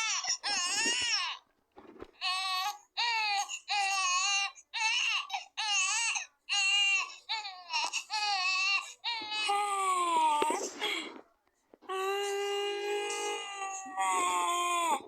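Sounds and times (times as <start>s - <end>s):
baby crying with hiccups: 0.0s - 1.4s, 2.2s - 10.8s, 11.9s - 15.0s.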